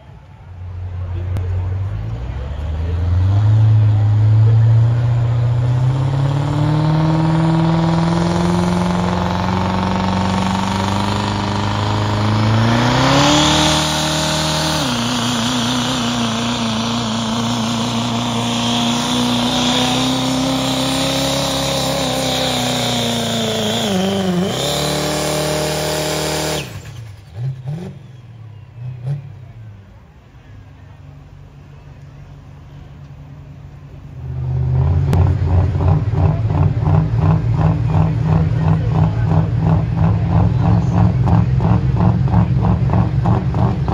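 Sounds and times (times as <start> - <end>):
diesel engine under full load: 0.0 - 43.9.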